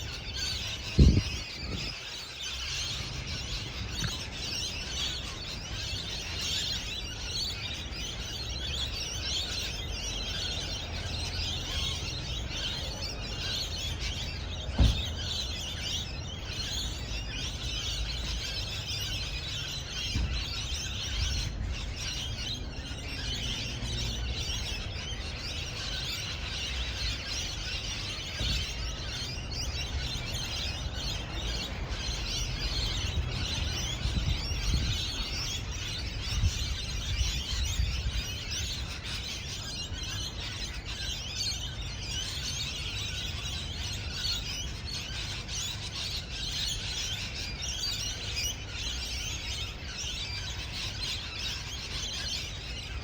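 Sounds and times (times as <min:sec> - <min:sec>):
parrots chattering and chirping: 0:00.0 - 0:53.0.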